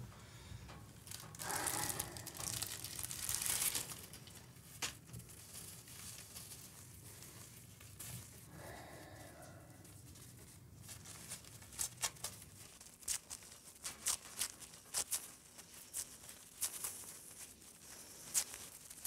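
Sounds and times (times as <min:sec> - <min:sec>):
paper crumpling and tearing: 0:01.0 - 0:08.4, 0:10.3 - 0:19.0.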